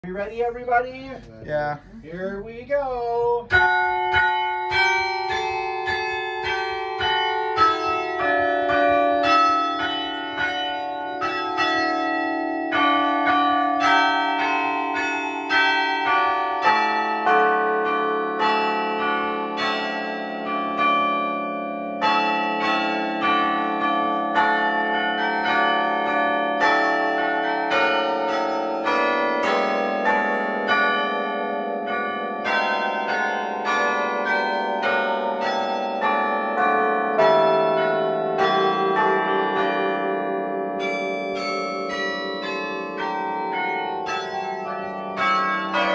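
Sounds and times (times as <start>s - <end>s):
church bells playing a tune: 3.4s - 45.9s.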